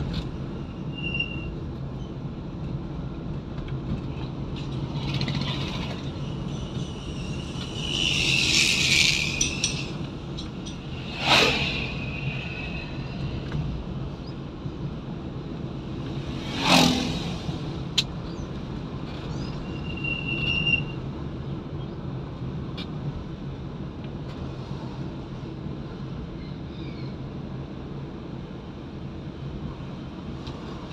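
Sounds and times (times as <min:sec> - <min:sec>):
car engine and road noise: 0:00.0 - 0:30.9.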